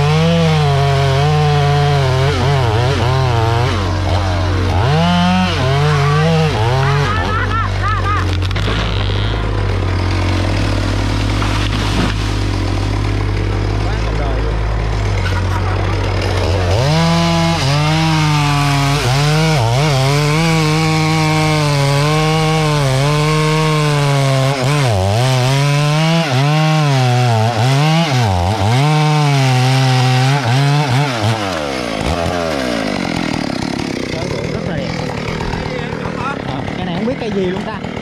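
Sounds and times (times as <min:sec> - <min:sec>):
chainsaw cutting tree trunk: 0:00.0 - 0:38.0.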